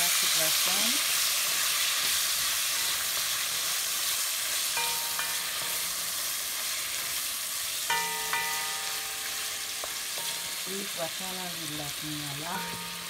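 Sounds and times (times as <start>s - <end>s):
fish sizzling in oil: 0.0s - 13.0s
utensil stirring in pan: 0.0s - 13.0s.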